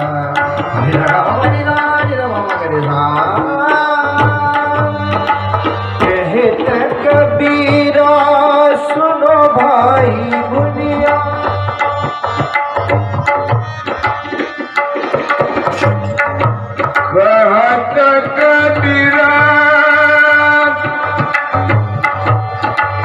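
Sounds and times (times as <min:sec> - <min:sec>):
harmonium chords: 0:00.0 - 0:23.0
tabla strokes: 0:00.0 - 0:23.0.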